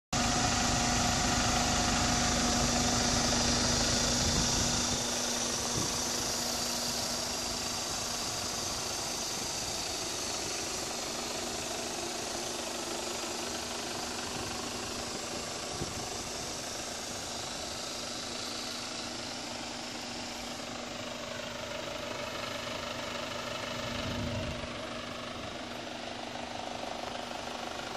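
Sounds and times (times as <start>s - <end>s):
diesel engine idling: 0.2s - 27.9s.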